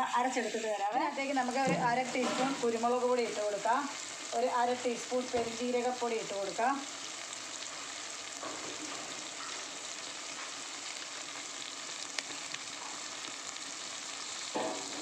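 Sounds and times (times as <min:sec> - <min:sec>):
onion and tomato sizzling in pan: 0:00.0 - 0:15.0.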